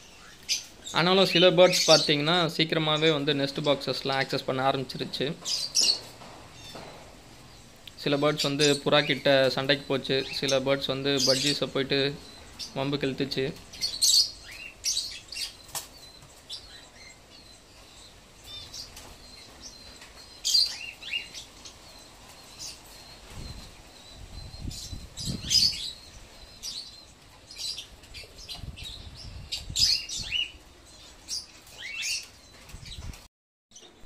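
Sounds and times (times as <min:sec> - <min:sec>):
lovebirds chirping: 0:00.0 - 0:34.0.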